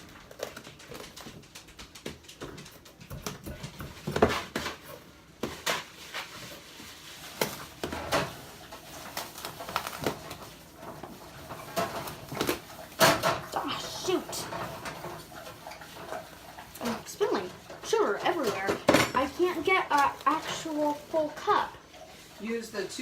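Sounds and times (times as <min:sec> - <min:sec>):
dishes and utensils clattering: 0:00.0 - 0:22.4.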